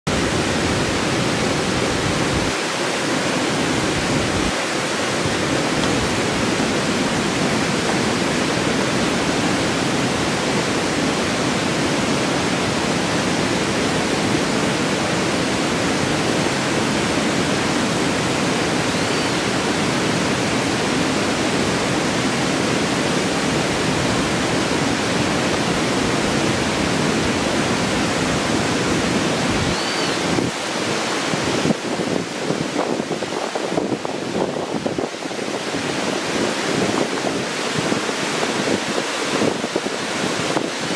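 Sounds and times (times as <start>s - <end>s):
water rushing over rocks: 0.1s - 40.9s.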